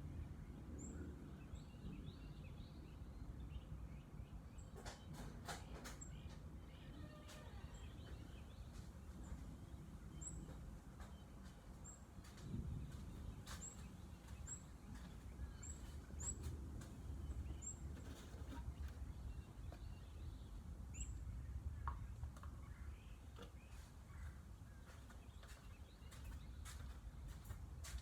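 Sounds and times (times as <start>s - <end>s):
birds calling: 1.8s - 27.6s.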